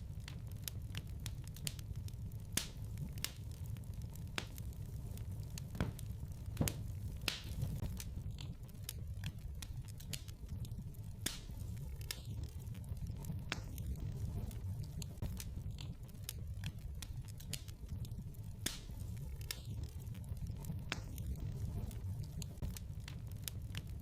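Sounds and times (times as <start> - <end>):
low rumble of flames: 0.0 - 24.0
wood fire crackling: 0.0 - 24.0.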